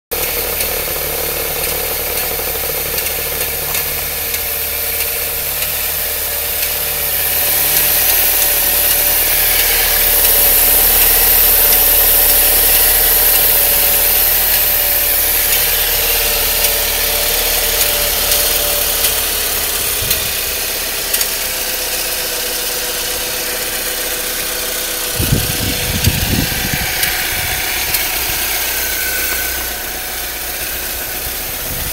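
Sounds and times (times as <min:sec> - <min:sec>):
engine ticking: 0:00.1 - 0:31.9
rough car engine idling: 0:00.1 - 0:31.9.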